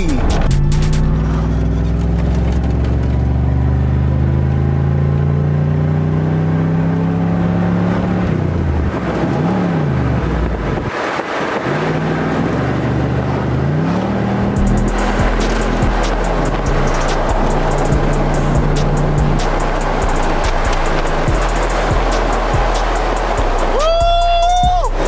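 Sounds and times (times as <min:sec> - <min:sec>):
car engine revving from inside: 0:00.2 - 0:24.2.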